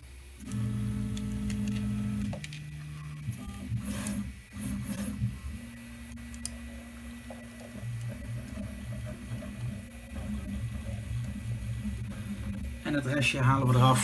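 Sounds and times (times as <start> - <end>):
cooling fans hissing: 0.0 - 14.0
stepper motors humming: 0.0 - 14.0.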